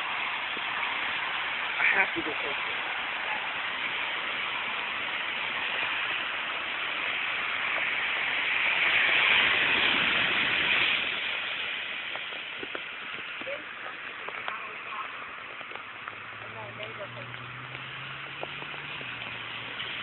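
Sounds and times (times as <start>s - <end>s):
heavy rain: 0.0s - 20.0s
running floodwater: 0.0s - 20.0s.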